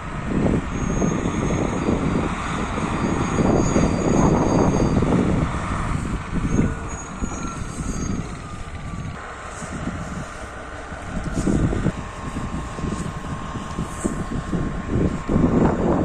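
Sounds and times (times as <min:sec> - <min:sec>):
diesel locomotive engine rumbling: 0:00.0 - 0:16.0
thin high whine: 0:00.7 - 0:16.0.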